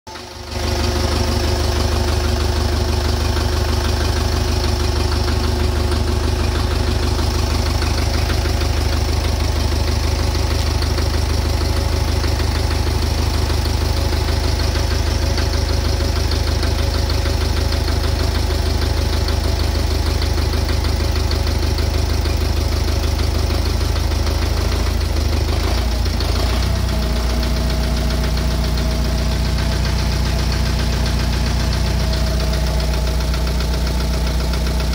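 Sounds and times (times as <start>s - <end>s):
engine idling with rhythmic knock: 0.1s - 34.9s.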